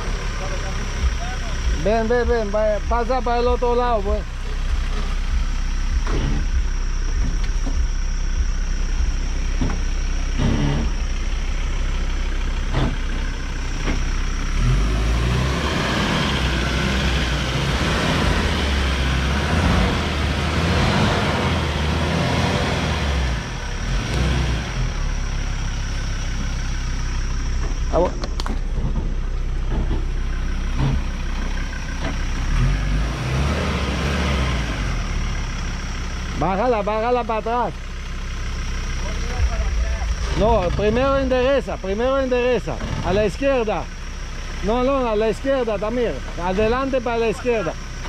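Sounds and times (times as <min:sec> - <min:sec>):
truck engine revving under load: 0:00.0 - 0:25.6, 0:27.5 - 0:36.4, 0:37.6 - 0:48.0.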